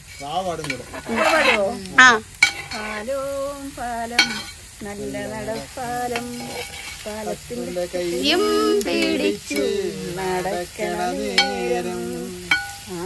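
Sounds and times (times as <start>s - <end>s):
food sizzling in a pan: 0.0s - 13.0s
woman singing unaccompanied: 1.1s - 13.0s.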